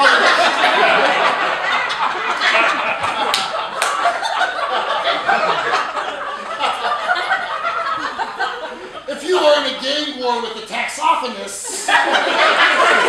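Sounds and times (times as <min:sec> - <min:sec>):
audience laughing: 0:00.0 - 0:13.0.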